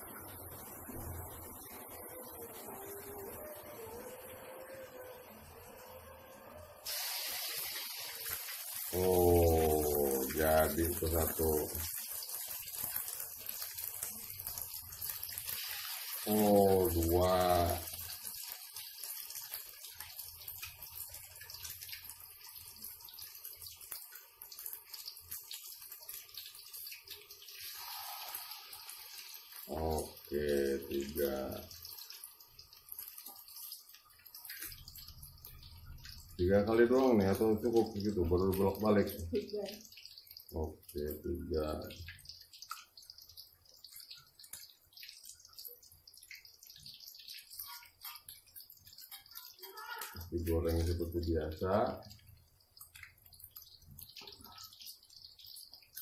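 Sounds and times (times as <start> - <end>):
batter sizzling in hot oil: 0.0 - 56.0.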